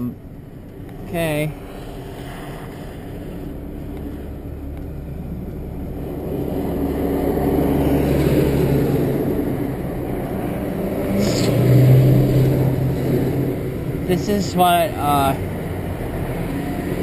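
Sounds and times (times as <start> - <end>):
car engine accelerating: 2.2 - 17.0.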